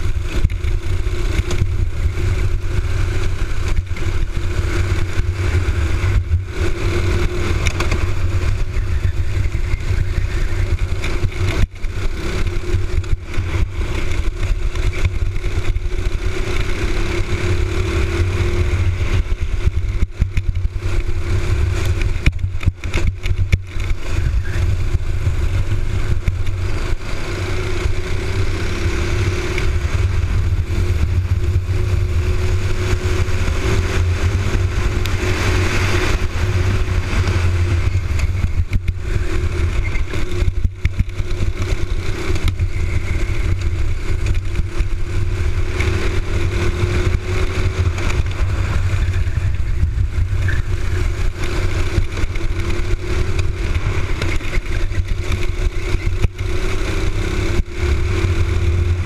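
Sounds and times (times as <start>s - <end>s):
kart engine revving: 0.0s - 59.0s
low rumble: 0.0s - 59.0s.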